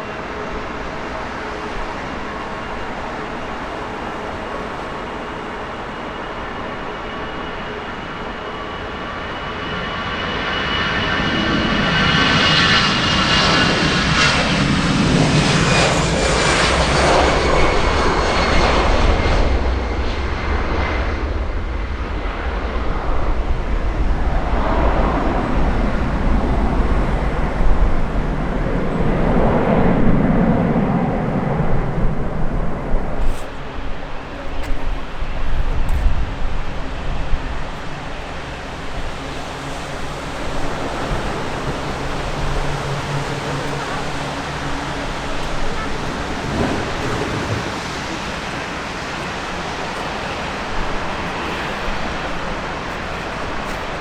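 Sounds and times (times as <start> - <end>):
jet engines passing close by: 0.0 - 54.0.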